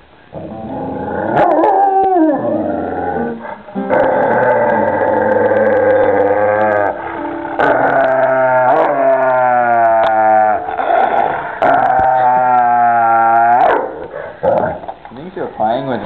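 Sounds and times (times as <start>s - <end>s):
dog howling: 0.4s - 14.8s.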